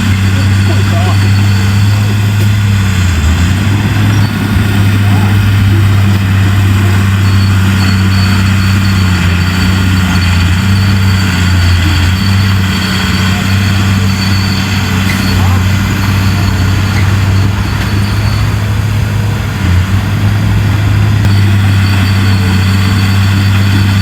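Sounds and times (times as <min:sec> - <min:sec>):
bulldozer diesel engine droning: 0:00.0 - 0:24.0
faint high whine: 0:00.0 - 0:24.0.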